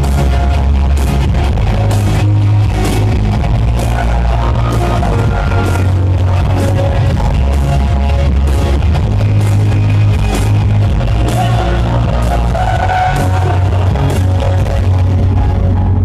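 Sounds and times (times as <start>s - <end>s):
live rock band instrumental: 0.0s - 16.0s.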